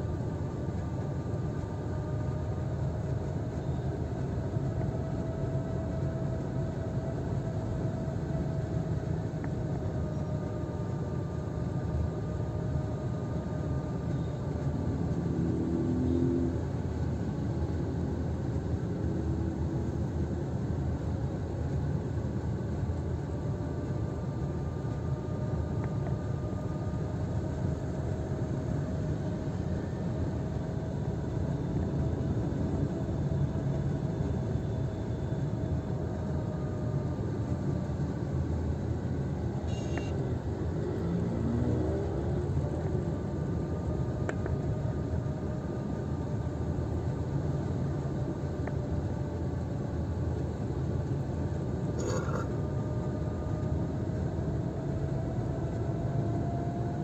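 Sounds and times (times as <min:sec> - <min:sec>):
car engine and tyres rumbling: 0:00.0 - 0:57.0
faint steady whine: 0:00.0 - 0:57.0.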